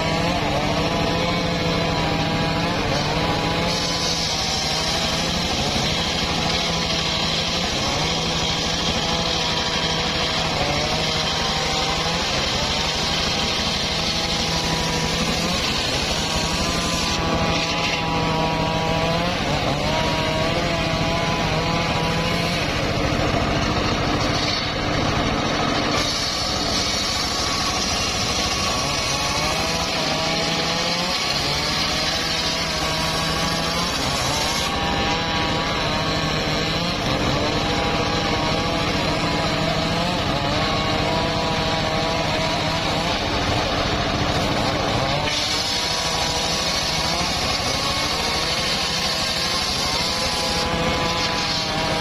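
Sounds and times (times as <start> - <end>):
circular sawmill cutting log: 0.0 - 52.0.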